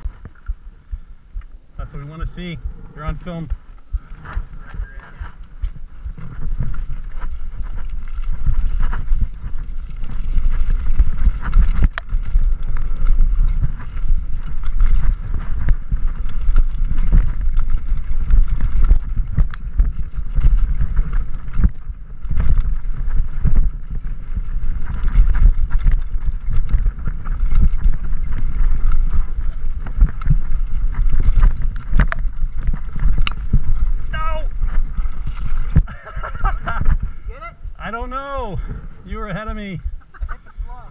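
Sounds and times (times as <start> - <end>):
bike rattling and knocking: 0.0 - 40.8
bike tyre noise on dirt: 0.0 - 40.9
wind rumbling on microphone: 0.0 - 40.9.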